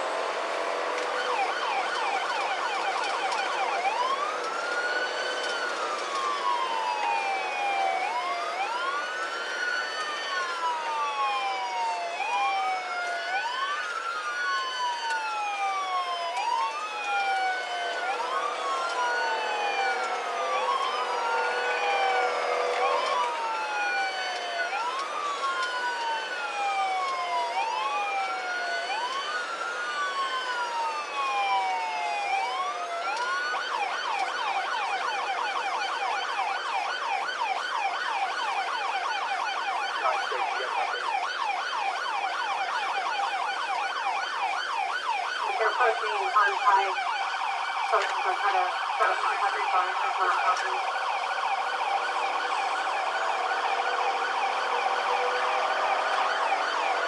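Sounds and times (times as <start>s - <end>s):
police siren wailing and yelping: 0.0s - 57.0s.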